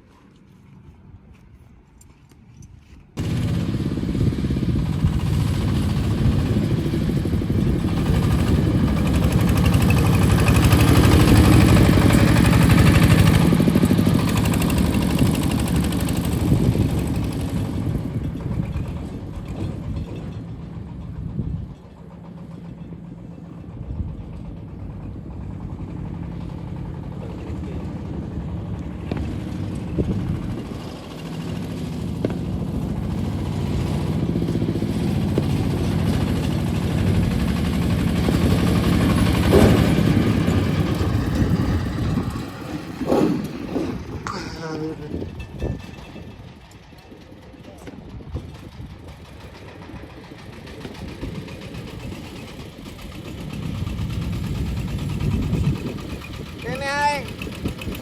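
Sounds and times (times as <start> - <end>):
diesel engine running loudly: 3.2 - 58.0.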